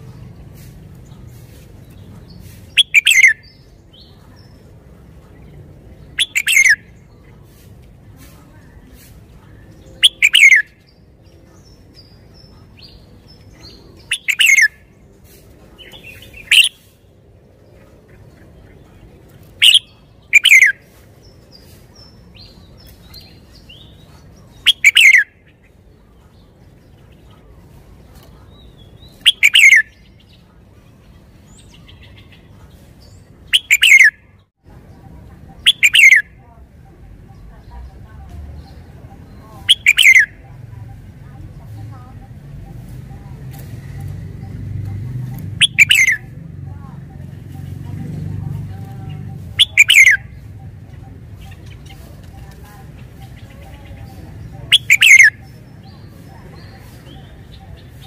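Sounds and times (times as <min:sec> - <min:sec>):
bird song phrases: 0:00.0 - 0:58.0.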